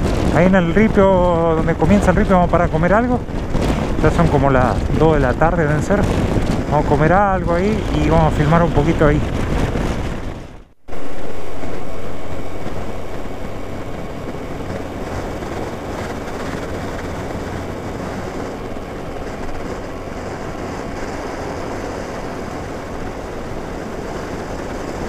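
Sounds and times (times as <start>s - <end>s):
motorcycle engine humming: 0.0s - 25.0s
wind and road noise: 0.0s - 25.0s.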